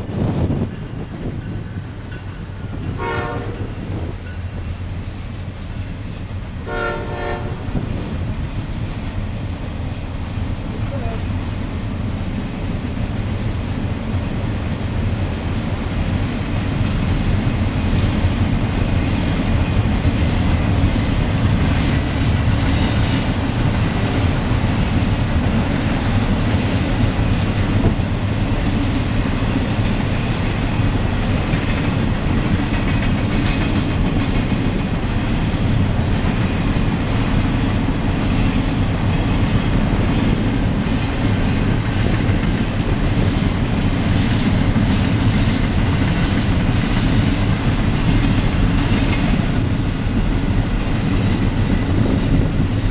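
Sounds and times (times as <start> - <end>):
train wheels clacking: 0.0 - 11.2, 14.8 - 52.9
freight train rumbling past: 0.0 - 52.9.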